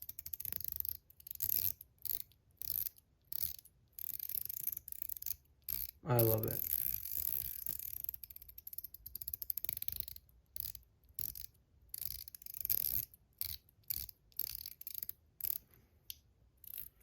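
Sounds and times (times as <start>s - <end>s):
fine ratcheting clicks: 0.0s - 15.6s.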